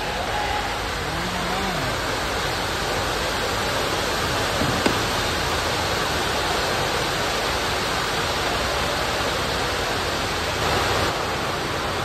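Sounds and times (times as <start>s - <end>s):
steady broadband hiss: 0.0s - 12.0s.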